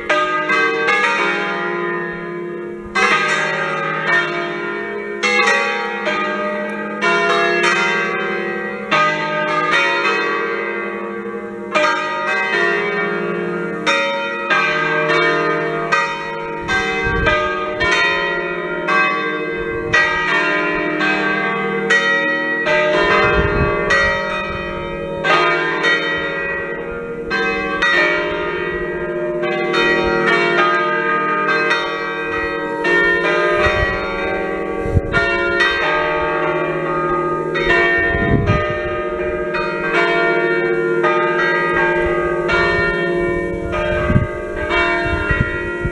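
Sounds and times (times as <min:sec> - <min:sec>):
church bells ringing: 0:00.0 - 0:45.9.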